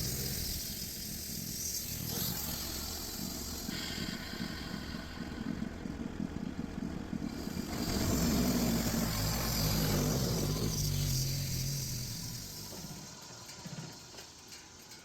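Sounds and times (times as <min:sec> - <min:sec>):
sawmill engine running: 0:00.0 - 0:14.5.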